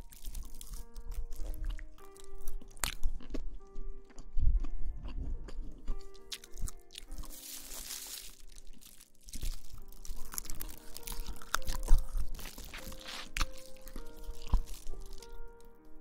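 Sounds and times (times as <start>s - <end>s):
rustling and crinkling: 0.0s - 2.8s, 5.1s - 16.0s
faint background music: 0.0s - 16.0s.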